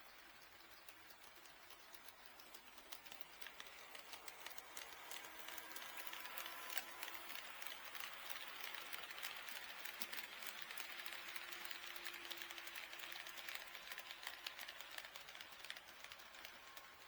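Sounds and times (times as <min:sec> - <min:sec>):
faint motor whine: 0:00.0 - 0:17.0
model train wheels clicking: 0:00.0 - 0:17.0.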